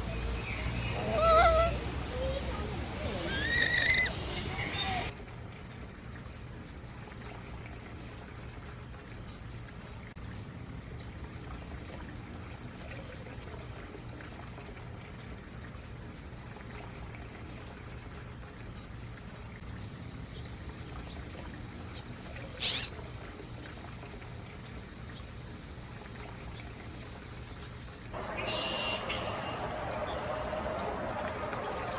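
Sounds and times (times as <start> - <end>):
stream water trickling: 0.0 - 31.9.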